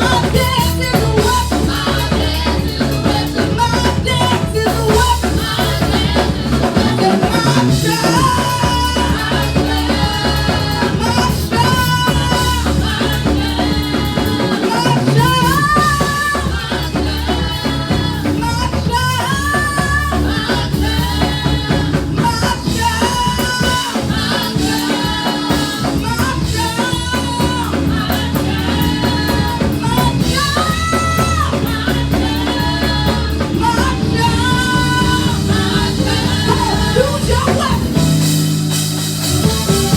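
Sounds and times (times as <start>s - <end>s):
bass line: 0.0s - 39.9s
drum kit: 0.0s - 39.9s
people singing worship music: 0.0s - 39.9s.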